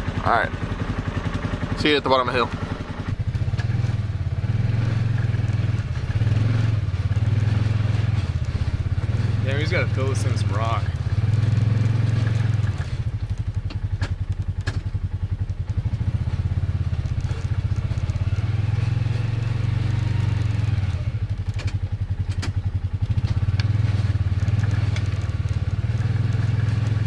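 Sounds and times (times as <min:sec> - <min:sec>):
dirt bike engine idling: 0:00.0 - 0:27.0.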